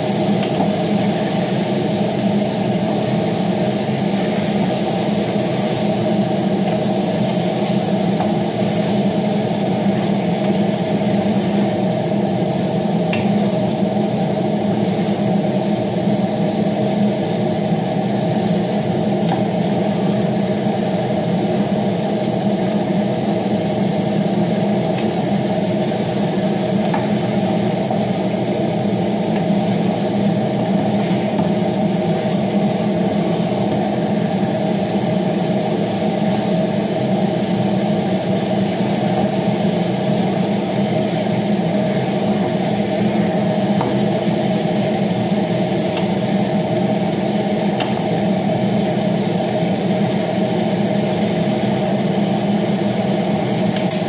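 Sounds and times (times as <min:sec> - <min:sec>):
electric fan motor humming: 0:00.0 - 0:54.0.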